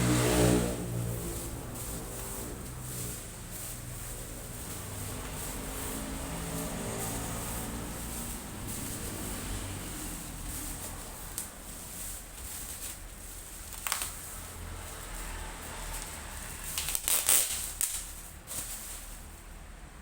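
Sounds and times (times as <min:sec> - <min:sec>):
packaging rustling and crinkling: 0:00.4 - 0:19.6.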